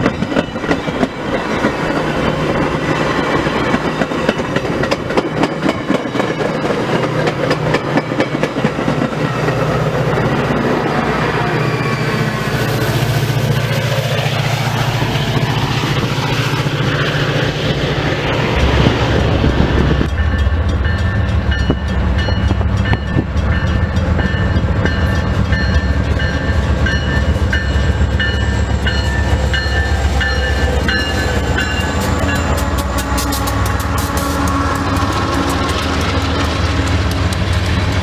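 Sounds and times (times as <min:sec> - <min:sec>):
diesel engines rumbling: 0:00.0 - 0:38.0
diesel locomotive passing: 0:00.0 - 0:38.0
wheels on rails: 0:00.0 - 0:38.0.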